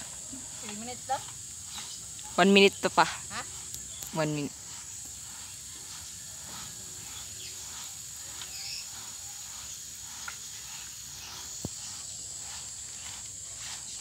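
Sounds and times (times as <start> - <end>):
insects droning: 0.0 - 14.0
sand sifting through wire screen: 0.0 - 14.0.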